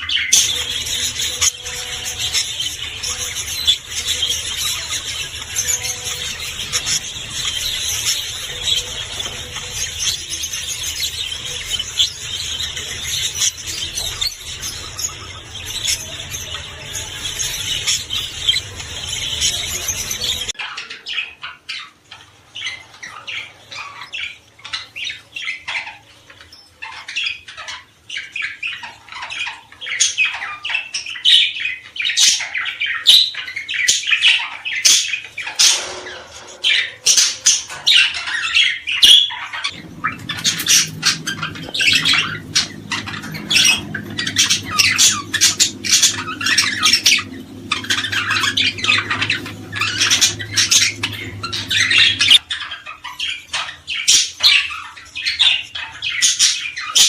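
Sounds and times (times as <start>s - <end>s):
small songbirds singing: 0.0s - 57.0s.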